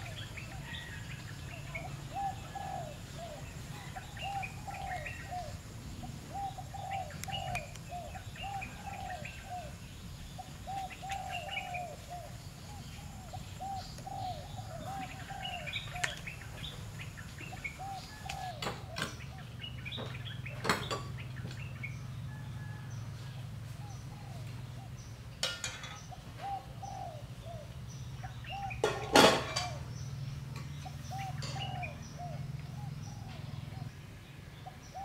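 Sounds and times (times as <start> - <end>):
doves cooing: 0.0 - 34.0, 34.6 - 35.0.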